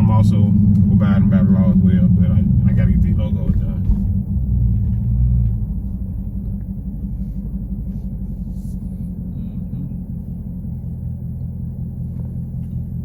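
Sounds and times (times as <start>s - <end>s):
car engine and exhaust drone: 0.0s - 13.0s.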